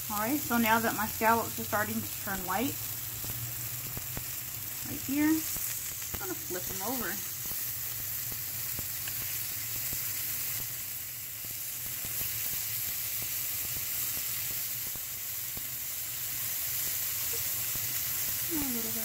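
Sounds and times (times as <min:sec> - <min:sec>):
scallops sizzling in frying pan: 0:00.0 - 0:19.0.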